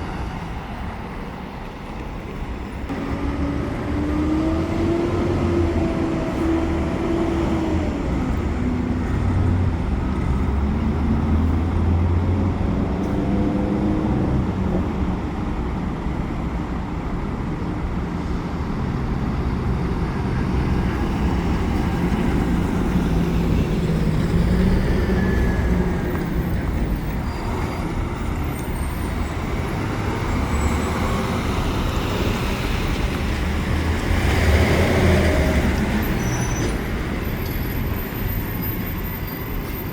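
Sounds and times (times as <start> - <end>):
diesel vehicles passing: 0.0 - 39.9
traffic rumble: 0.0 - 39.9.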